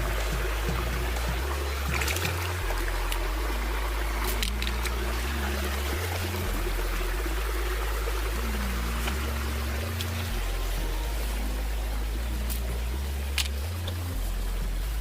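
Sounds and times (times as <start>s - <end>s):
background music bass line: 0.0s - 15.0s
water trickling: 0.0s - 15.0s.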